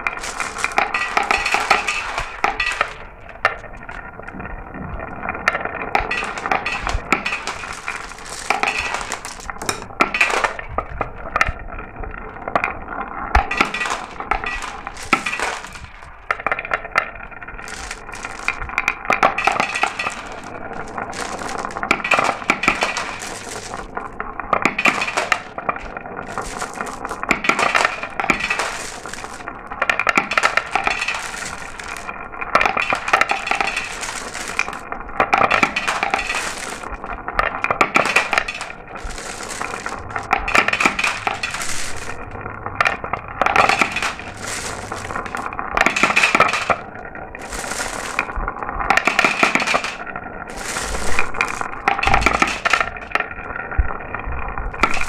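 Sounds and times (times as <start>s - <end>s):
marbles rolling and clinking: 0.0s - 55.0s.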